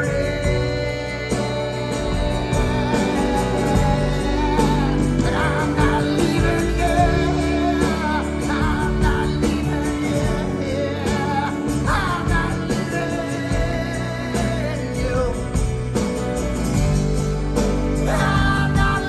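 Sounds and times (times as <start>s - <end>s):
live band music: 0.0s - 19.0s.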